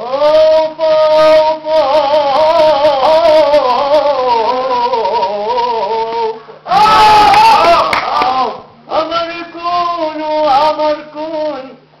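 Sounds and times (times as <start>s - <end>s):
man singing solo folk song: 0.0s - 6.8s, 8.2s - 11.8s.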